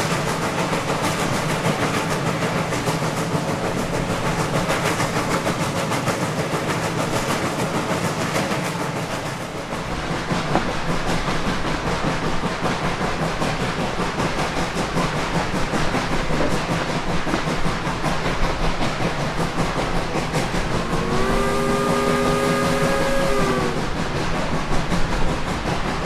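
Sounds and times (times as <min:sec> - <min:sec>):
steam locomotive running: 0:00.0 - 0:26.0.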